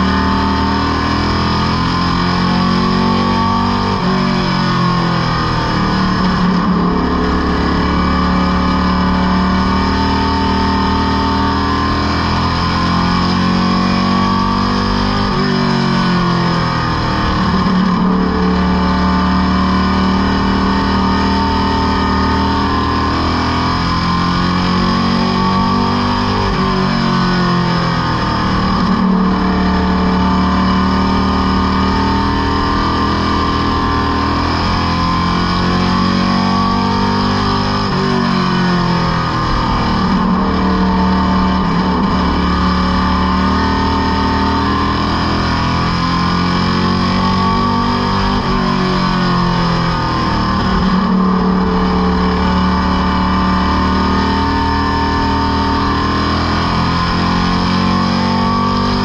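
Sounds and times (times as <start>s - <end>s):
race car engine at speed: 0.0s - 59.0s.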